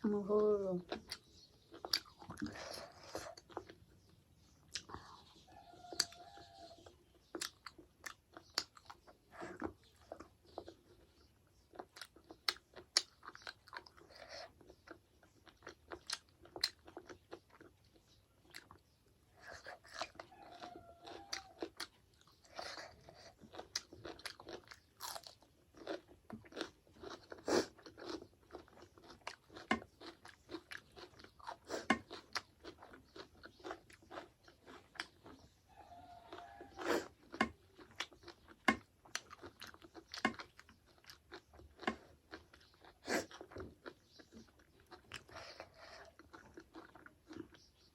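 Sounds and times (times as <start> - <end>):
person chewing and crunching food: 0.8 - 47.9.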